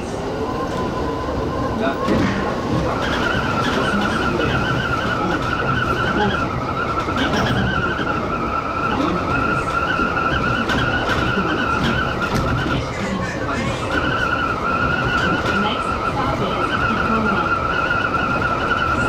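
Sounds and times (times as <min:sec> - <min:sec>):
train running rumble: 0:00.0 - 0:19.0
train wheels squealing on rail: 0:00.4 - 0:19.0.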